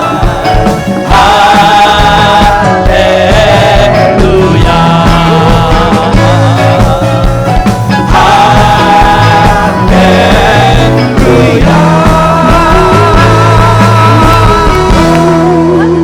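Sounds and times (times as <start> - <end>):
people singing: 0.0 - 16.0
steady drum beat: 0.0 - 16.0
worship band playing praise song: 0.0 - 16.0.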